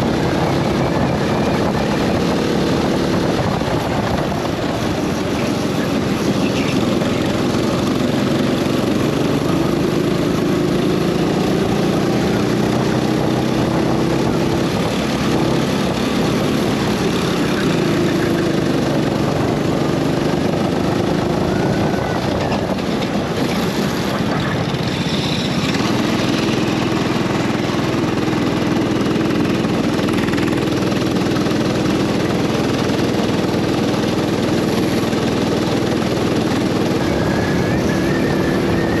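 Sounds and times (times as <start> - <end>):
go-kart engine running: 0.0 - 39.0.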